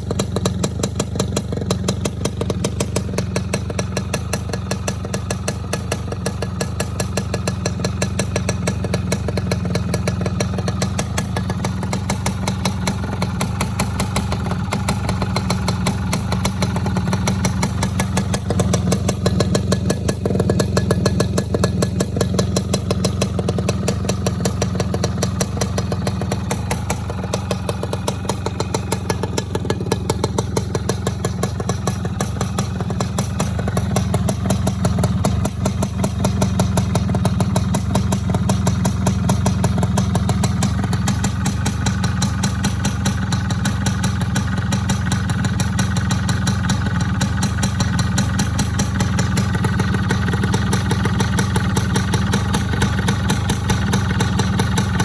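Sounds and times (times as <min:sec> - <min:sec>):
two-stroke engine idling roughly: 0:00.0 - 0:55.0.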